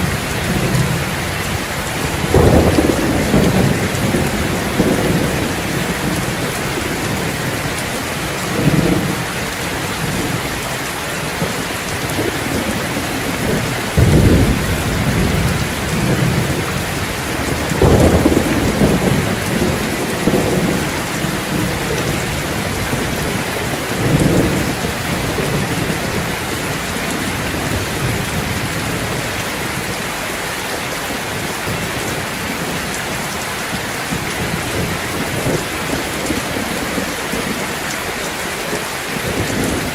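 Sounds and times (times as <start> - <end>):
thunder rumbling: 0.0 - 30.2, 31.1 - 39.9
heavy rain: 0.0 - 39.9.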